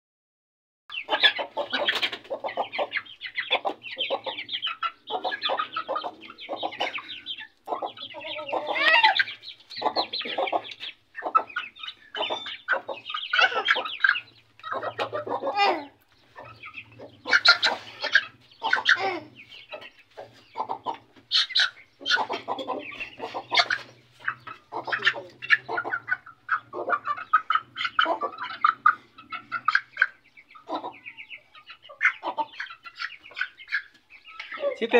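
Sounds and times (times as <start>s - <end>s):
chicken clucking and squawking: 0.9s - 34.9s.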